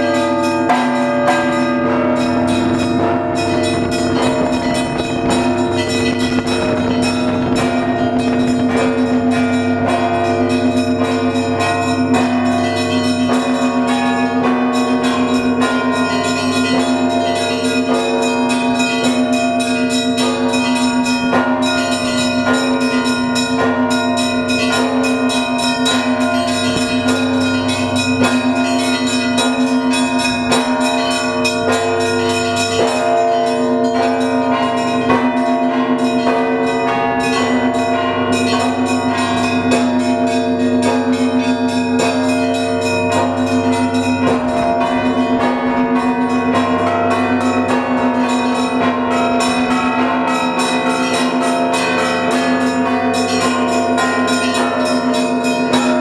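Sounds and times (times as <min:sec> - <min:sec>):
hum of large bells: 0:00.0 - 0:56.0
small bells struck rapidly: 0:00.0 - 0:56.0.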